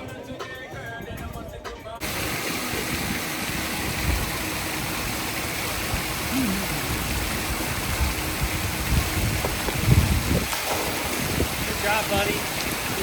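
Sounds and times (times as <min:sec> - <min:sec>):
rushing water: 0:02.0 - 0:13.0
wind buffeting microphone: 0:02.0 - 0:13.0.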